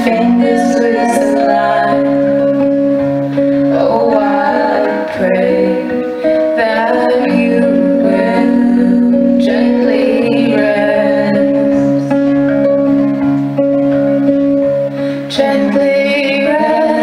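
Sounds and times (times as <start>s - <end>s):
women singing: 0.0s - 12.2s, 15.3s - 17.0s
acoustic guitar: 0.0s - 17.0s.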